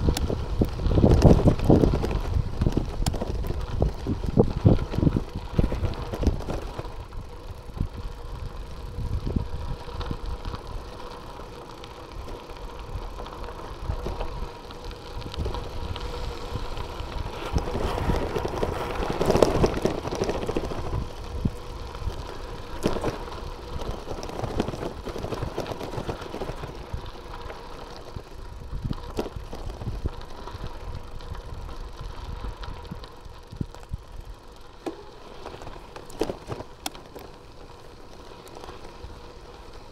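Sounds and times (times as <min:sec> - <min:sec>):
bicycle rattles and knocks: 0:00.0 - 0:39.9
bicycle tyres rolling on gravel: 0:00.0 - 0:39.9.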